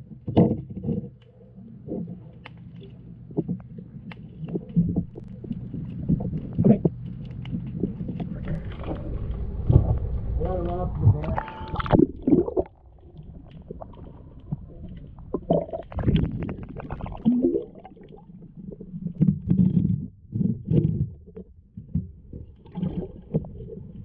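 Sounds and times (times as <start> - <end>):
underwater air bubbles gurgling: 0.0 - 10.4, 11.0 - 24.0.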